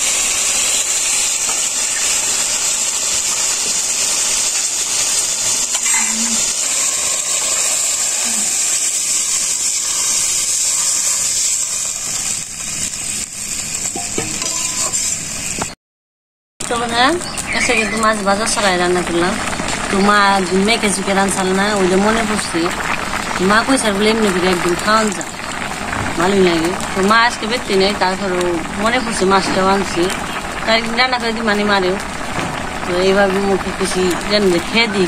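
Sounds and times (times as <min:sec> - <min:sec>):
food sizzling in a pan: 0:00.0 - 0:15.8, 0:16.6 - 0:35.0.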